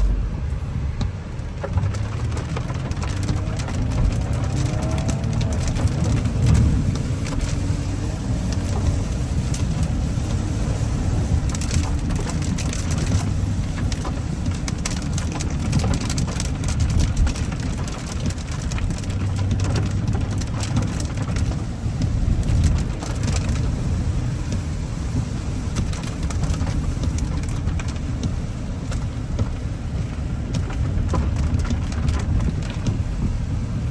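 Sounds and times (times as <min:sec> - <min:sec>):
car engine and road rumble: 0:00.0 - 0:33.9
crackling noise: 0:00.0 - 0:33.9.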